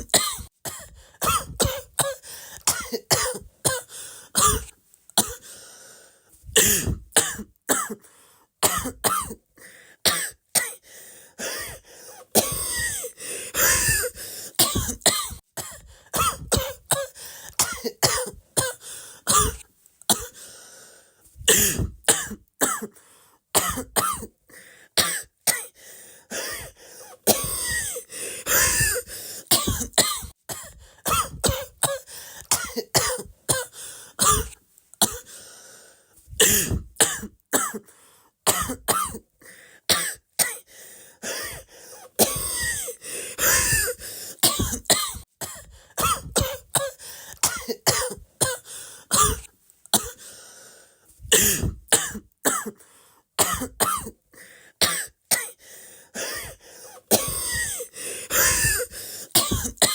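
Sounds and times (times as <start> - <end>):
person coughing: 0.0 - 5.5, 6.5 - 8.0, 8.6 - 9.4, 11.4 - 20.4, 21.4 - 23.0, 23.6 - 24.4, 25.0 - 35.3, 36.4 - 37.9, 38.5 - 39.3, 39.9 - 50.2, 51.3 - 52.8, 53.4 - 54.2, 56.2 - 59.9.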